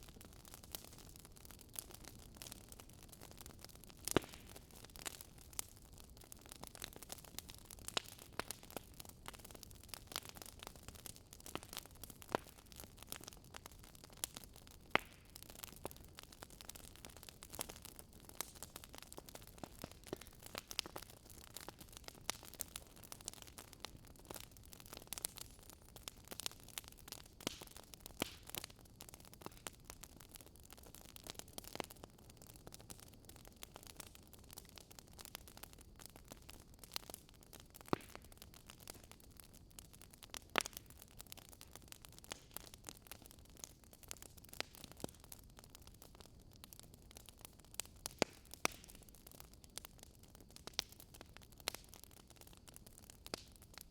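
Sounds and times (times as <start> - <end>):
wood fire crackling softly: 0.0 - 53.9.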